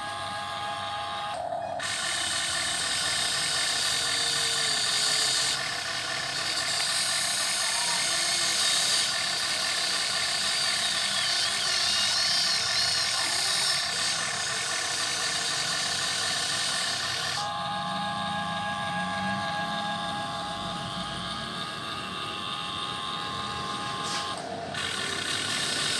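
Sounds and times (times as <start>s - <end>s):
electric gear motors whirring: 0.0s - 25.9s.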